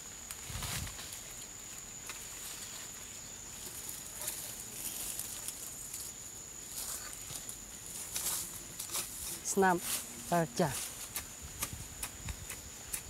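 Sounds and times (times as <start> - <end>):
leaves and brush rustling: 0.0 - 13.0.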